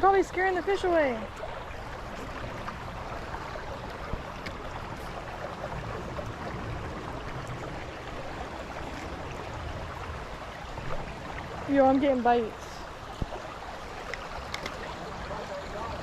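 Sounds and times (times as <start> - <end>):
fast-flowing creek rushing: 0.0 - 16.0.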